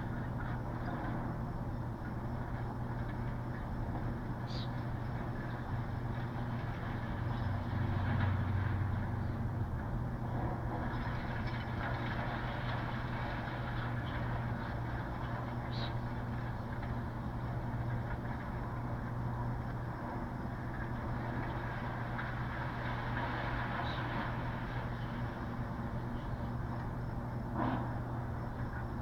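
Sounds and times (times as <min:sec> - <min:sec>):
heavy machinery engine humming: 0:00.0 - 0:29.0.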